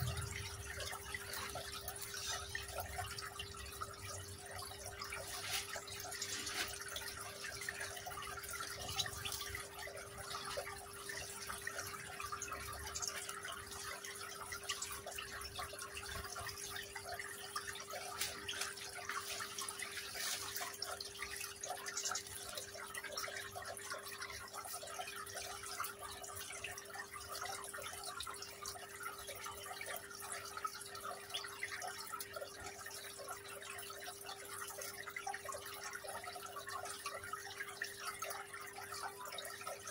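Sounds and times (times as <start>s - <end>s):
water trickling down fountain: 0.0s - 39.9s.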